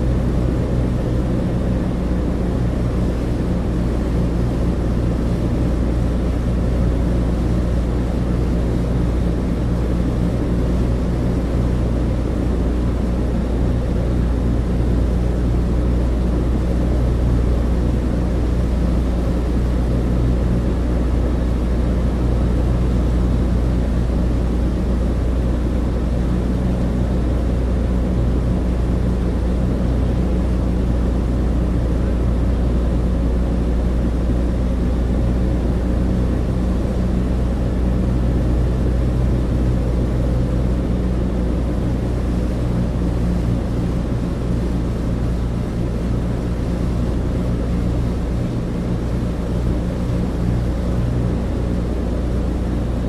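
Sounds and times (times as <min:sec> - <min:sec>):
propeller plane engines droning: 0:00.0 - 0:53.0.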